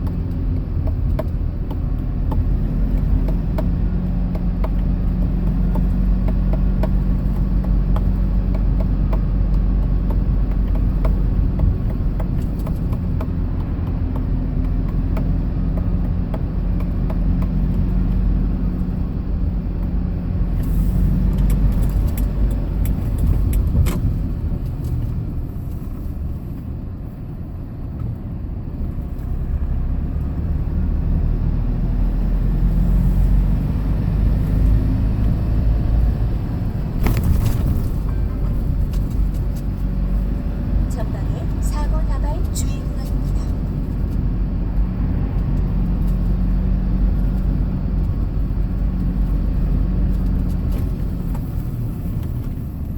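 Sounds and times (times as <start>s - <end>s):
road noise: 0.0s - 52.9s
truck engine hum: 0.0s - 52.9s.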